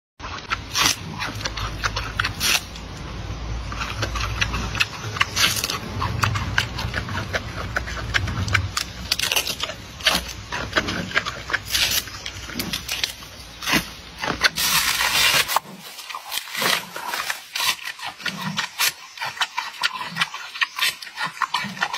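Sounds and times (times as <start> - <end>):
low steady hum: 0.2 - 21.9
panda chewing bamboo crunches: 0.2 - 21.9.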